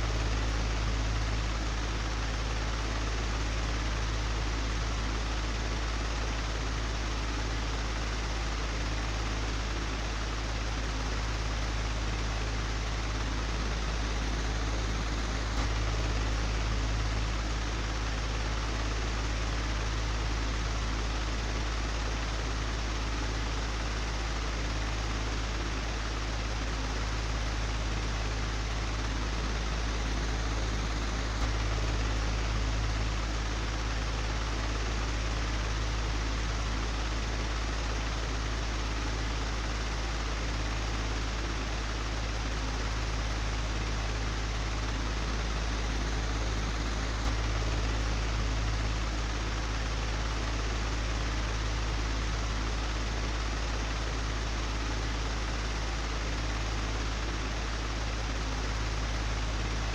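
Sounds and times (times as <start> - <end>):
electric fan humming: 8.8 - 59.9.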